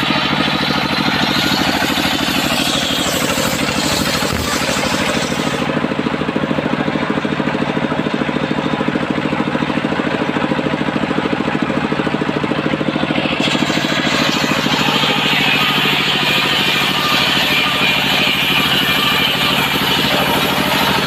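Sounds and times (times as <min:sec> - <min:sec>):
saw engine pulsing: 0:00.0 - 0:21.0.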